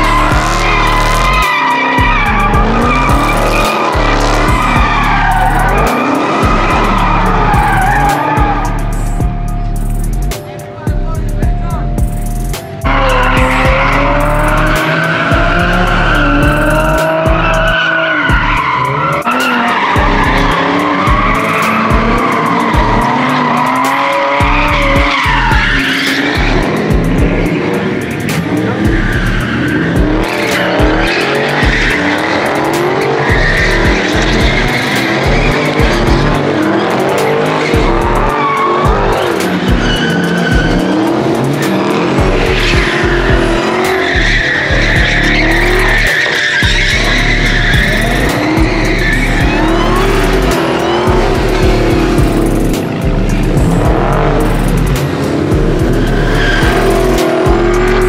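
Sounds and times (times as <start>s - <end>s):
tyres squealing: 0.0s - 10.3s, 11.8s - 58.0s
car engines revving hard: 0.0s - 58.0s.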